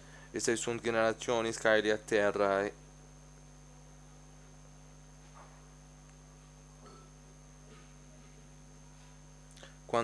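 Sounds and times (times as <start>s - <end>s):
low electrical hum: 0.0s - 10.0s
thin high whine: 0.0s - 10.0s.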